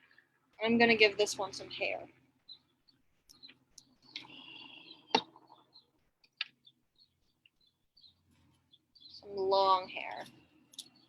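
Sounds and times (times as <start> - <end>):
faint bird chirps: 1.6 - 11.0.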